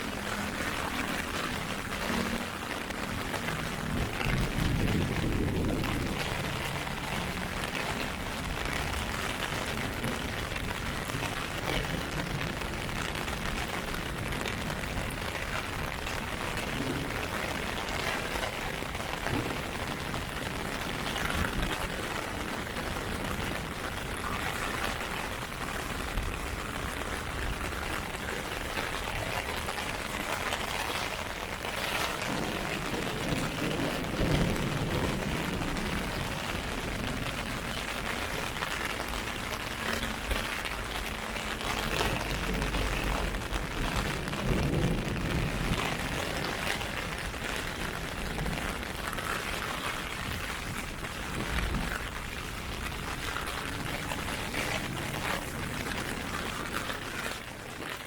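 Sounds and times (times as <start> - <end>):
heavy rain on an umbrella: 0.0 - 58.0.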